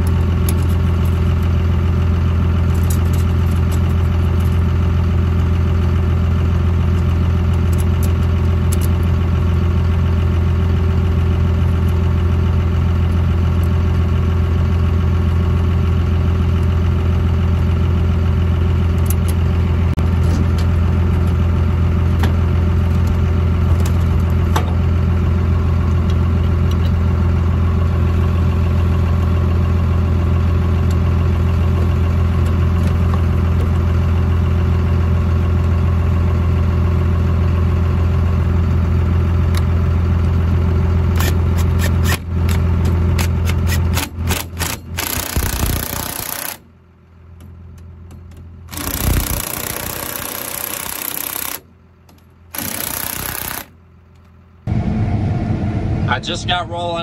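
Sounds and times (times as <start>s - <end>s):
diesel engine droning: 0.0s - 45.0s, 53.8s - 57.0s.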